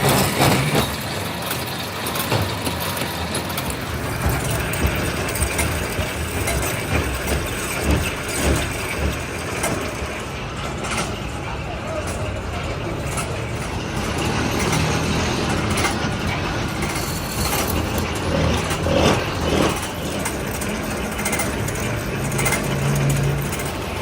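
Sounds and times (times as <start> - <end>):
machinery droning: 0.0 - 24.0
metallic knocks: 3.4 - 24.0.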